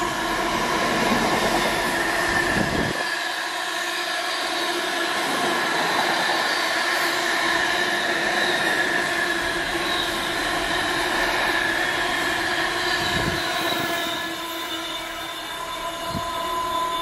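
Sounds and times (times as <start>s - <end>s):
steady whine of held tones: 0.0s - 17.0s
train wheels running on track: 0.0s - 17.0s.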